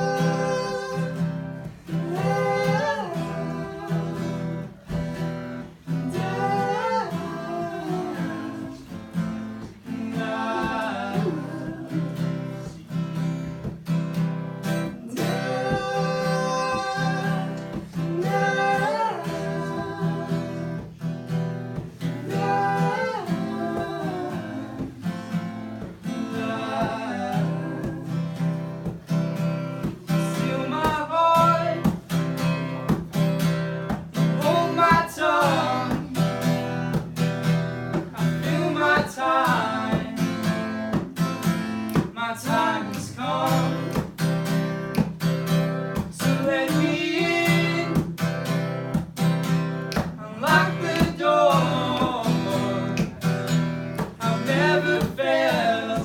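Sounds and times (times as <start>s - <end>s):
person singing: 0.0s - 5.2s, 5.8s - 13.5s, 14.7s - 21.0s, 21.8s - 28.9s, 30.0s - 32.5s, 34.2s - 37.2s, 38.0s - 41.2s, 41.8s - 44.2s, 46.0s - 48.2s, 50.0s - 53.4s, 54.2s - 56.0s
acoustic guitar strumming: 0.0s - 56.0s.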